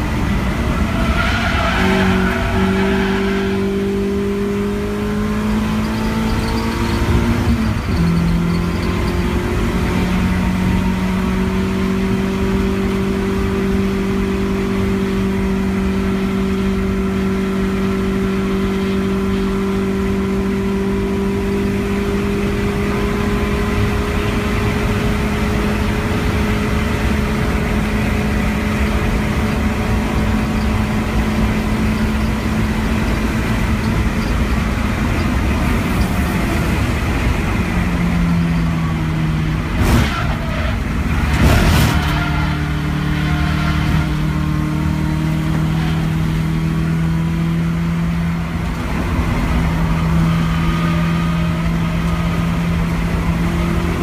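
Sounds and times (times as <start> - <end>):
car engine under full throttle: 0.0 - 54.0
road and wind noise: 0.0 - 54.0.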